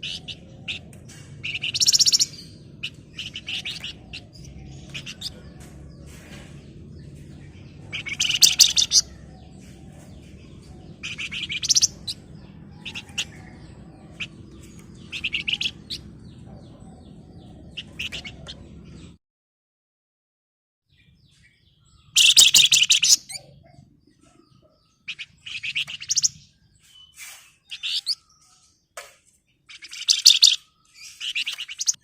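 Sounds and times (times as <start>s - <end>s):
bird chattering trills: 0.0s - 19.2s, 22.0s - 28.6s, 29.7s - 32.0s
high bird chirps: 0.0s - 19.2s, 21.0s - 32.0s.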